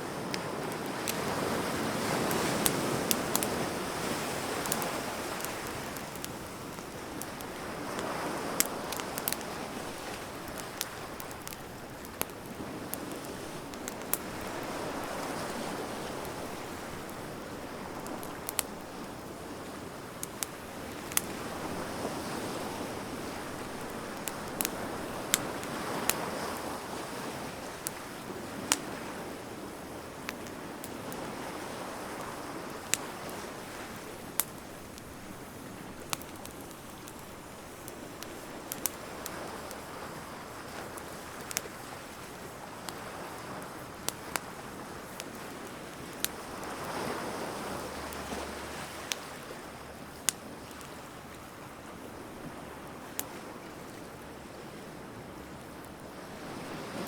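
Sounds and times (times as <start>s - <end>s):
surf washing in and out: 0.0s - 36.4s, 37.3s - 57.0s
bonfire crackling and popping: 0.0s - 57.0s.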